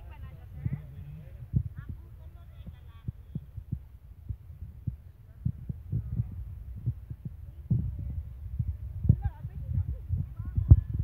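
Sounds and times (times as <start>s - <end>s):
faint voices: 0.0s - 11.0s
low rumble: 0.0s - 11.0s
low thumps: 0.1s - 11.0s.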